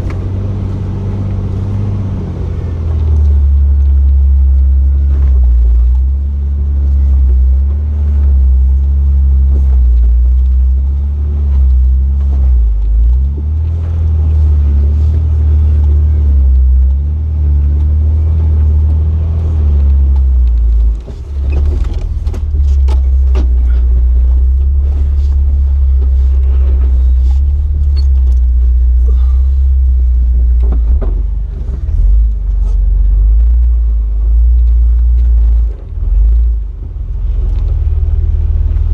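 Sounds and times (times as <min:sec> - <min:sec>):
engine running at low revs: 0:00.0 - 0:38.9
knocks and clatter: 0:02.8 - 0:28.6, 0:30.3 - 0:36.6.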